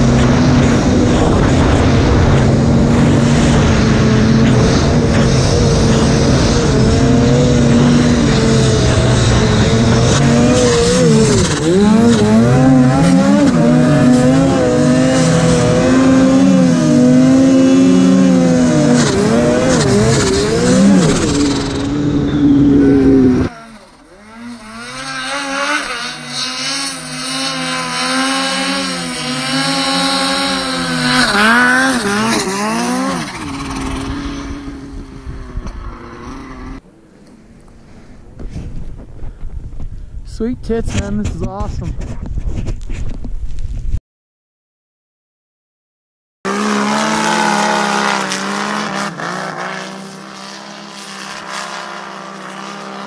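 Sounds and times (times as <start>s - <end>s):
snowmobile engine revving: 0.0s - 38.0s, 46.5s - 53.0s.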